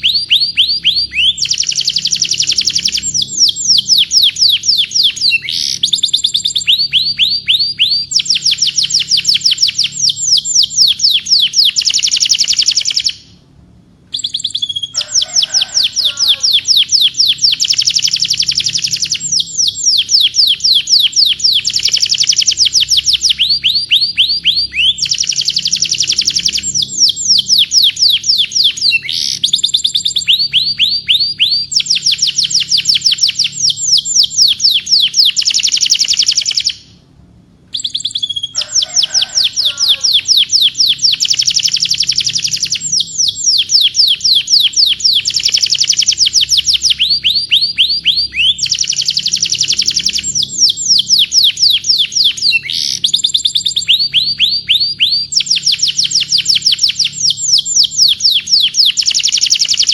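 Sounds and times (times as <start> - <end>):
canary singing rapid trills: 0.0 - 13.4, 14.1 - 37.0, 37.7 - 59.9.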